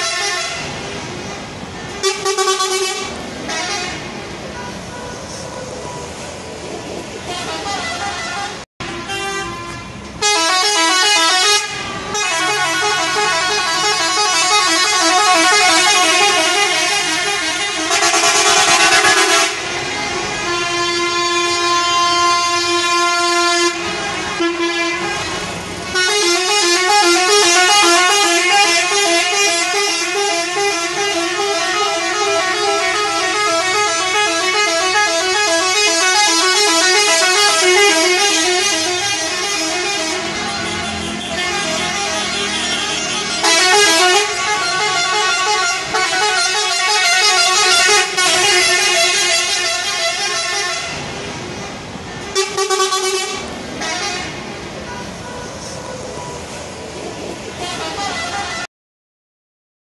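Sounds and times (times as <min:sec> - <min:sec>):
bus air horns playing a tune: 0:00.0 - 0:05.5, 0:07.2 - 0:55.8, 0:57.5 - 0:58.7.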